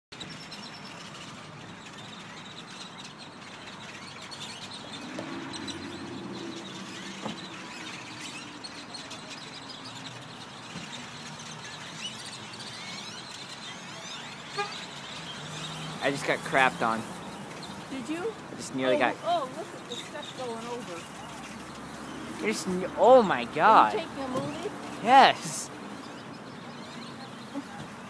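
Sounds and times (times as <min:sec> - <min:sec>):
flock of birds chattering: 0:00.2 - 0:28.0
vehicle engine hum: 0:03.6 - 0:28.0.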